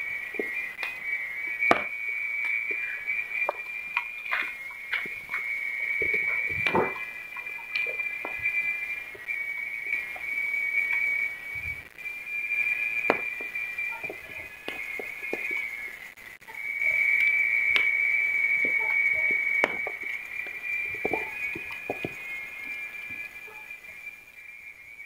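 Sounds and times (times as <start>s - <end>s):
fire crackling and popping: 0.0s - 25.0s
fire whistling: 0.0s - 25.0s.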